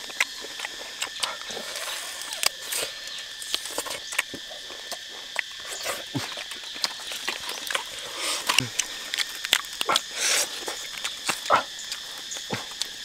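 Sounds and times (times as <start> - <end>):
insects droning: 0.0 - 13.0
man chewing and tearing meat: 0.0 - 13.0.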